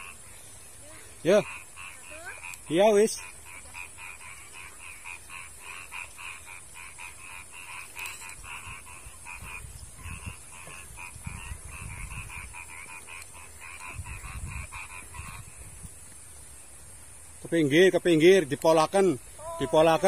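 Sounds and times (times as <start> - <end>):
frog croaking: 0.0 - 0.5, 1.1 - 16.0, 17.4 - 20.0.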